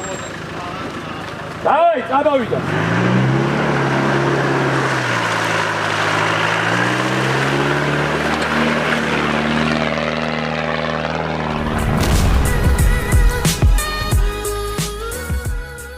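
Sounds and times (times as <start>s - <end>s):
diesel engine revving: 0.0s - 15.3s.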